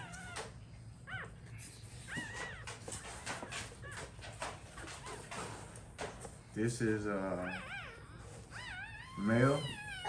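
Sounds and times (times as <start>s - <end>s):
puppies whimpering: 0.0s - 5.8s, 6.7s - 10.0s.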